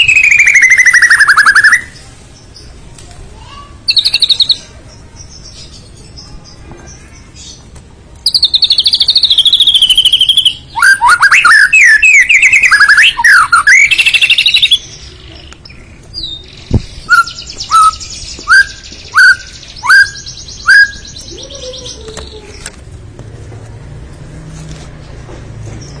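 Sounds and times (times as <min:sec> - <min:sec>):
bird singing varied song: 0:00.0 - 0:02.8, 0:03.4 - 0:22.8.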